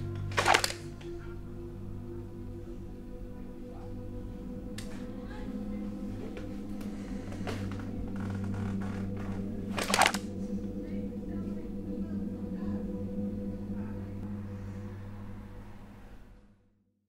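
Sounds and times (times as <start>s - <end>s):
ambient music drone: 0.0s - 16.8s.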